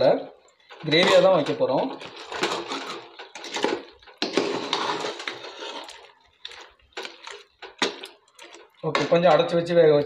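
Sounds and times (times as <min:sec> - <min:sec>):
metal spoon scraping a pot: 0:00.6 - 0:09.3.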